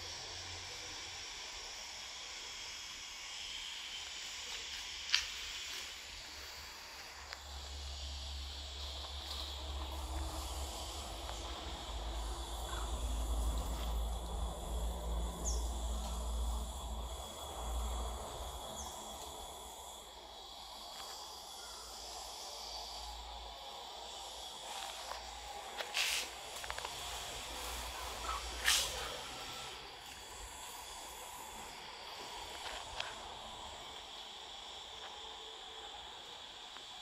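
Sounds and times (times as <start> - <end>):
high insect drone: 0.0 - 37.0
steady hiss: 0.0 - 37.0.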